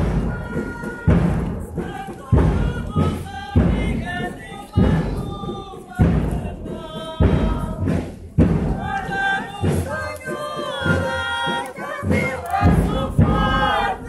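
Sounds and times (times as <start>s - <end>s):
slow heavy drum beat: 0.0s - 14.0s
voices singing a hymn: 0.0s - 14.0s.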